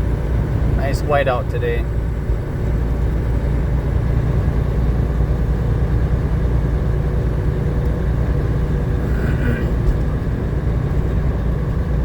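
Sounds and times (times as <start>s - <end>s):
road noise inside cab: 0.0s - 12.0s
truck engine drone: 0.0s - 12.0s.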